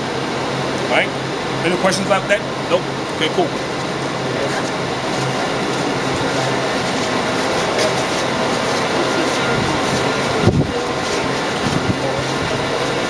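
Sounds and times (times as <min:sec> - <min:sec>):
machinery hum and rushing: 0:00.0 - 0:13.0.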